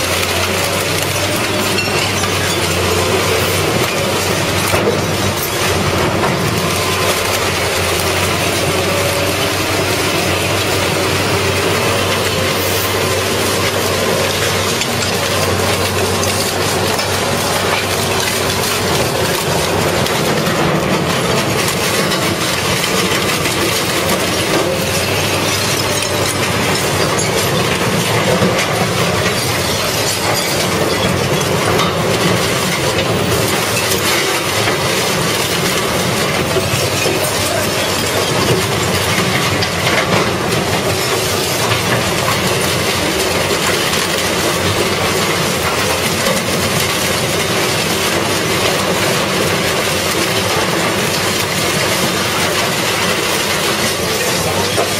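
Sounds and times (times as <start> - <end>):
shredder crunching and grinding metal: 0.0 - 54.9.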